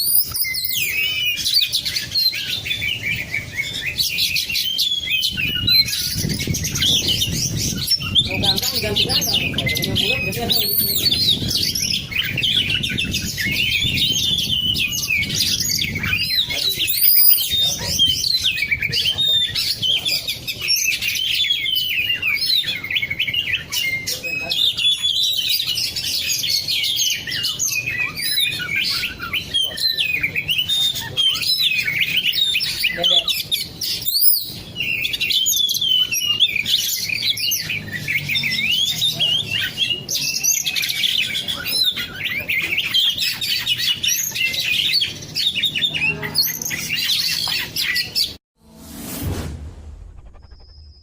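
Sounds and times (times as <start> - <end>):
bird singing chirps and whistles: 0.0 - 48.4.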